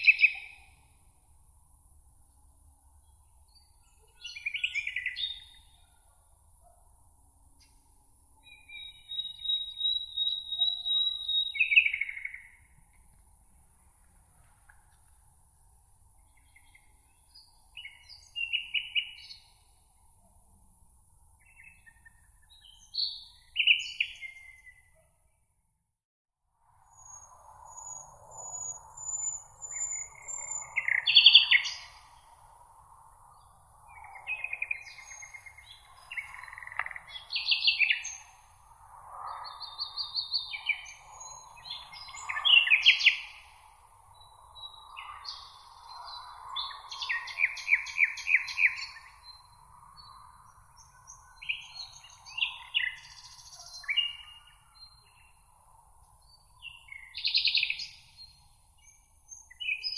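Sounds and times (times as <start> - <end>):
songbirds singing and calling: 0.0 - 1.0, 3.0 - 6.0, 8.4 - 13.1, 16.1 - 19.9, 21.3 - 25.1, 26.9 - 59.9.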